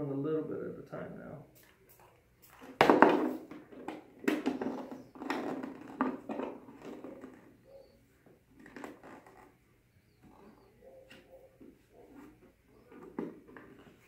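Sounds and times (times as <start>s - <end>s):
plastic knocking and rubbing: 2.6s - 14.0s.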